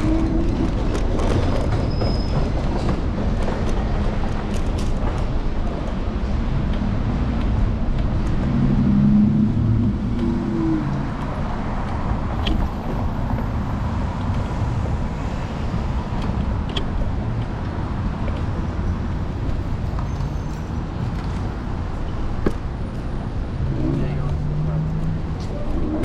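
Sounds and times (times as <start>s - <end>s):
city street traffic: 0.0s - 26.0s
road and wind rumble: 0.0s - 26.0s.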